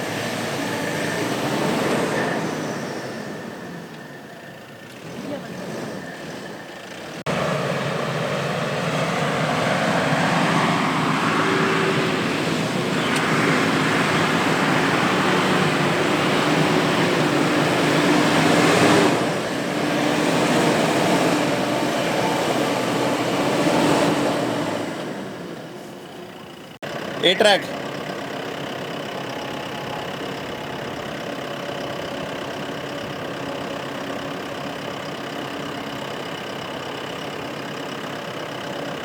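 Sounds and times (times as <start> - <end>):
diesel engine running under load: 0.0 - 39.0.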